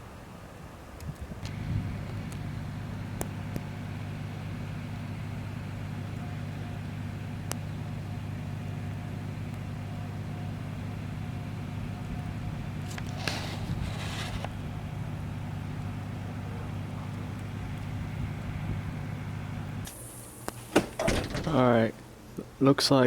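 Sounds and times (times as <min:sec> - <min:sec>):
car engine humming: 0:01.4 - 0:22.8.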